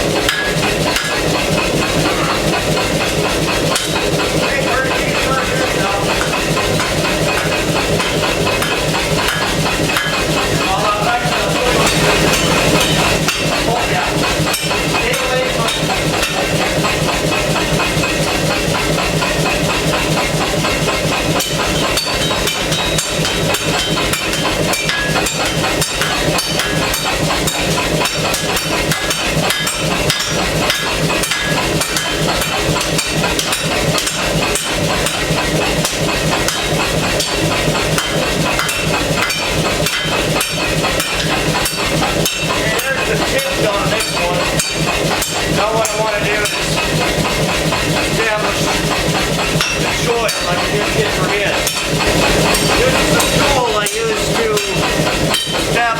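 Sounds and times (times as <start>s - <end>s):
pneumatic air hammer pounding steel: 0.0s - 55.9s.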